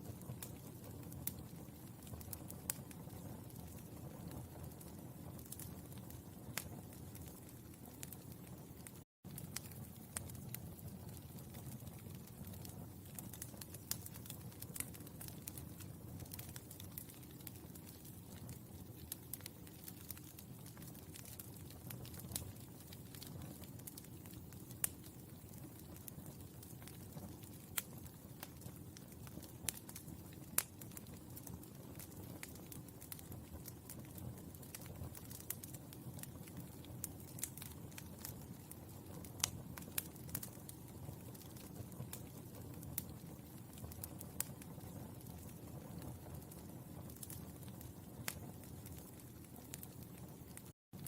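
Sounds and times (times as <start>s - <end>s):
burning charcoal crackling: 0.0s - 51.0s.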